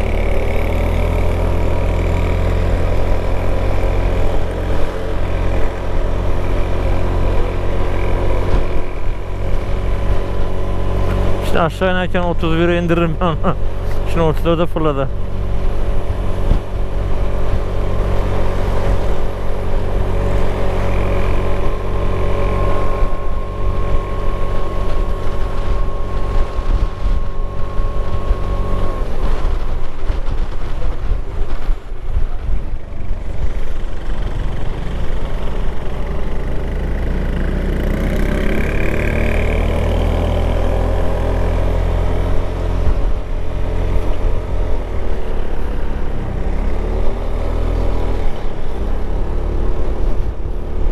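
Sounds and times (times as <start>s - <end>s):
motorcycle engine running: 0.0s - 50.9s
wind rumble on microphone: 0.0s - 50.9s.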